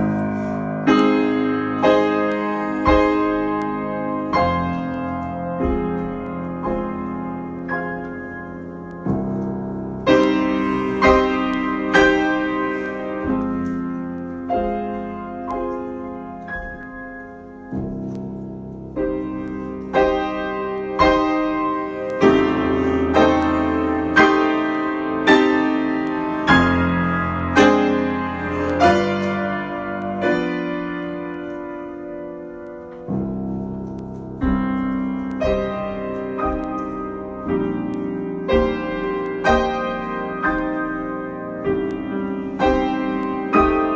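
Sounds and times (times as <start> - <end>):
solo piano improvisation: 0.0 - 43.9.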